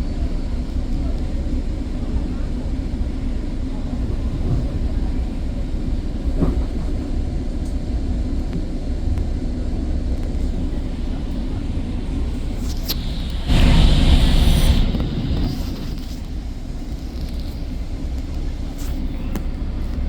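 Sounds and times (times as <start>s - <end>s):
diesel train rumble: 0.0s - 20.0s.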